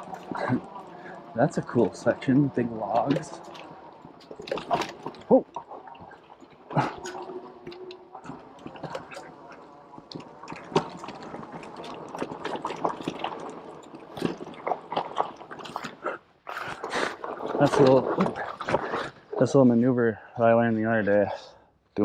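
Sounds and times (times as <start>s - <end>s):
bike rattling over rough trail: 0.0s - 19.8s.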